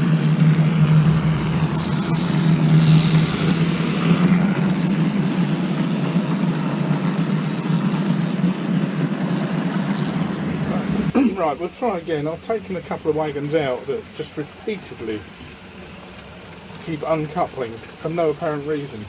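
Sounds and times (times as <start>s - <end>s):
model train motor hum: 0.0s - 19.0s
wheels rumbling on rails: 0.0s - 19.0s.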